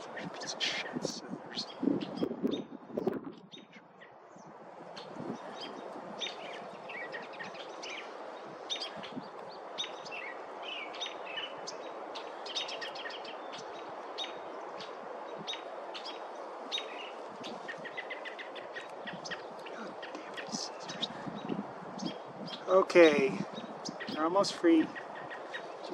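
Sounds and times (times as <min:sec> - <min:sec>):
background hiss: 0:00.0 - 0:01.8, 0:04.9 - 0:25.9
birds chirping and twittering: 0:00.0 - 0:25.9.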